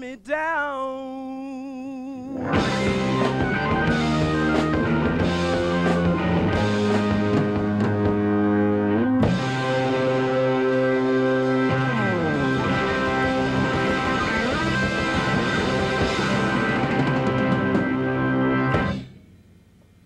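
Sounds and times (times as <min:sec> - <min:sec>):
drums: 0:02.3 - 0:19.2
rock band playing: 0:02.4 - 0:19.2.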